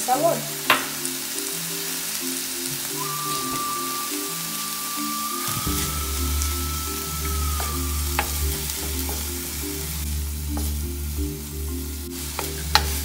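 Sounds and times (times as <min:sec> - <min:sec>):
background music: 0:00.0 - 0:13.0
vegetables sizzling in a pan: 0:00.0 - 0:13.0.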